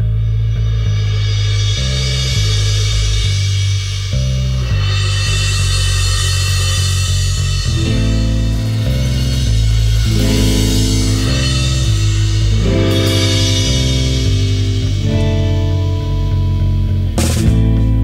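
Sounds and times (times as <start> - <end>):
instrumental rock music: 0.0 - 18.0.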